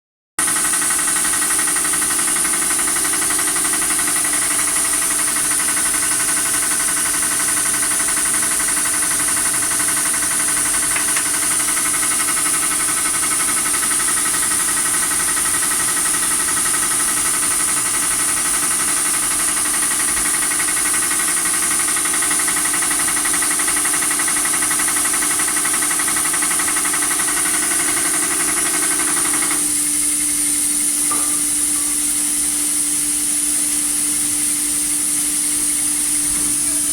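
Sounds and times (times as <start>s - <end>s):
motor humming with high whine: 0.4s - 36.9s.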